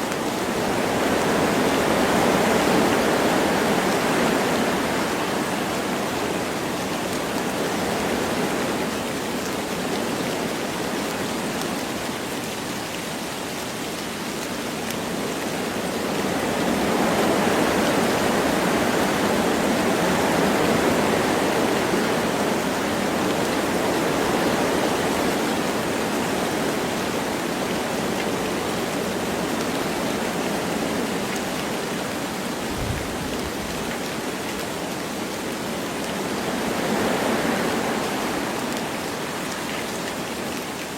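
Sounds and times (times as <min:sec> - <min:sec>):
light rain falling: 0:00.0 - 0:40.9
wind through forest trees: 0:00.0 - 0:40.9.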